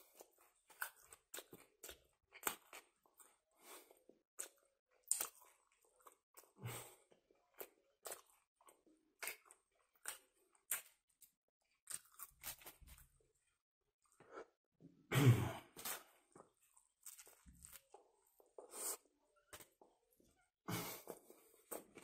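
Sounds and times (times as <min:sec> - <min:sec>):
person chewing food: 0:00.0 - 0:14.5, 0:15.8 - 0:20.2, 0:20.8 - 0:22.0.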